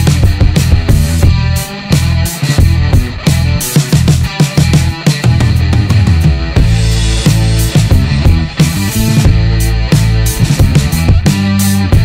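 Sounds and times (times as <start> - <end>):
heavy steady beat: 0.0 - 12.0
rock music with guitar: 0.0 - 12.0.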